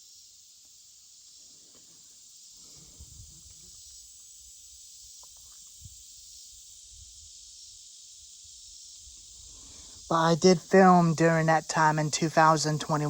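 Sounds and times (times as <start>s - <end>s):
faint high hiss: 0.0s - 13.0s.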